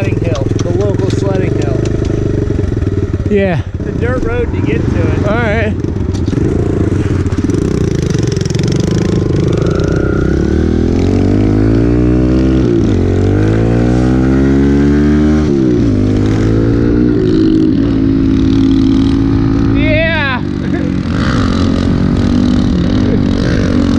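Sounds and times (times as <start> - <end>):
small motorcycle engine revving: 0.0 - 23.9.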